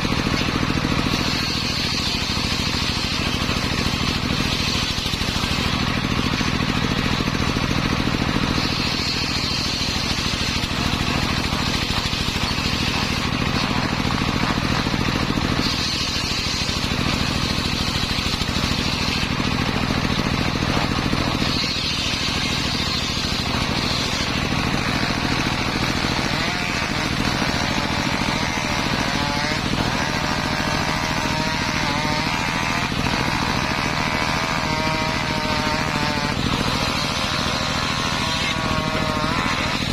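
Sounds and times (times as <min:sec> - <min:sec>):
circular saw cutting timber: 0:00.0 - 0:39.9
engine drone: 0:00.0 - 0:39.9.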